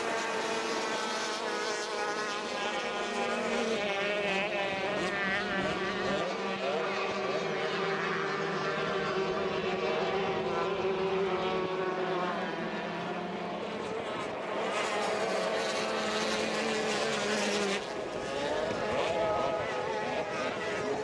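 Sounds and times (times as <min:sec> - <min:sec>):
racing boat engines at high revs: 0:00.0 - 0:21.0.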